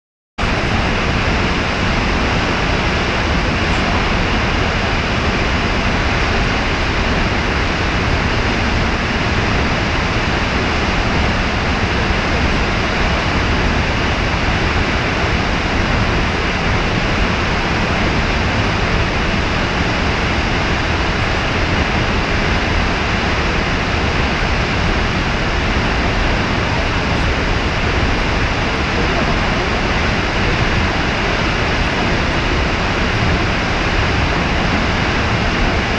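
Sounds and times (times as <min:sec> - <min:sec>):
waterfall roaring: 0:00.4 - 0:35.9.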